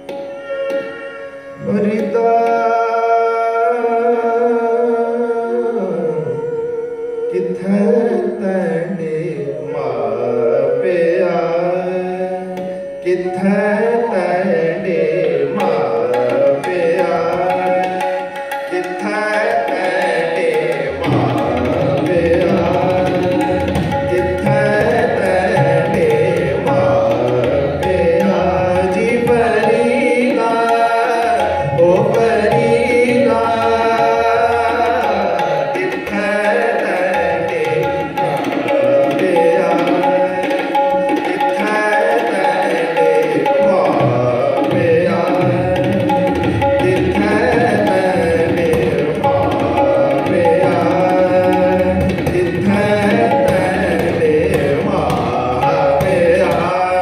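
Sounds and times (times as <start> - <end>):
bowed string melody: 0.0 - 3.2, 12.5 - 57.0.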